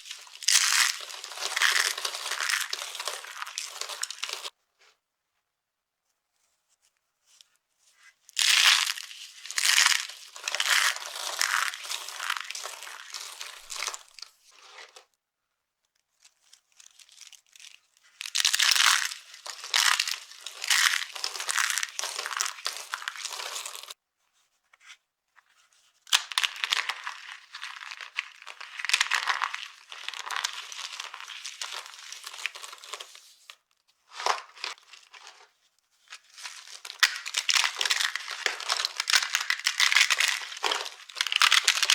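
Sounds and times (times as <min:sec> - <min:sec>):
dry soap crunching: 0:00.0 - 0:04.5, 0:08.4 - 0:15.0, 0:16.2 - 0:24.0, 0:26.1 - 0:35.5, 0:36.1 - 0:41.9.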